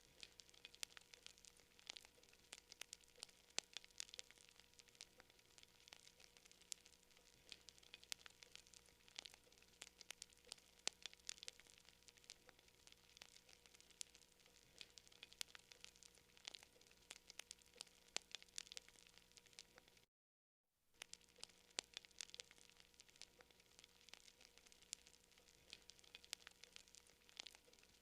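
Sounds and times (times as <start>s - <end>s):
campfire crackling: 0.0s - 20.1s, 21.0s - 28.0s
faint steady hum: 0.0s - 20.1s, 20.9s - 28.0s.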